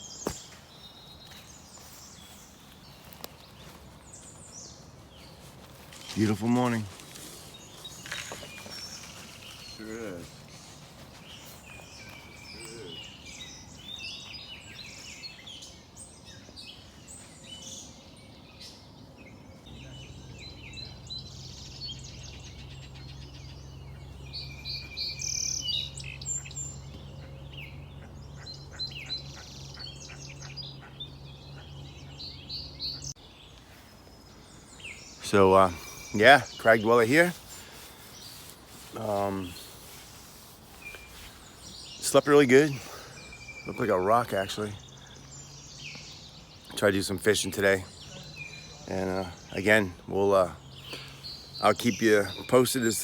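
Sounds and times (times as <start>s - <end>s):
small birds singing and chirping: 0.0s - 53.0s.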